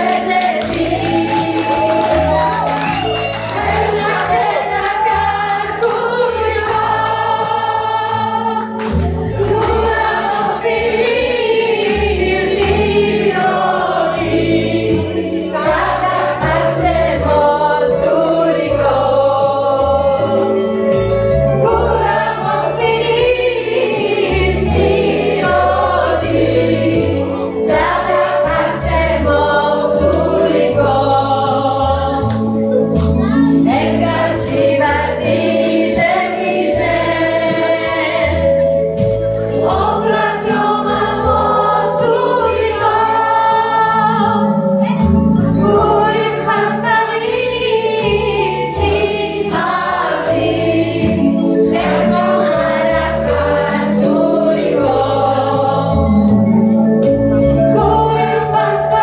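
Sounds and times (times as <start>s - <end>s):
group singing: 0.0s - 20.8s, 21.4s - 56.6s, 57.6s - 59.0s
instrumental accompaniment: 0.0s - 59.0s.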